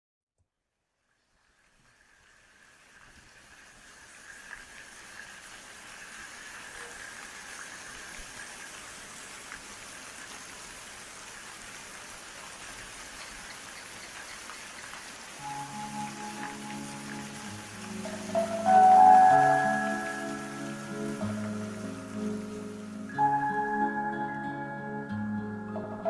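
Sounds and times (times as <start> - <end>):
sharper raindrops: 1.0 - 24.5
steady rain falling: 1.1 - 26.0.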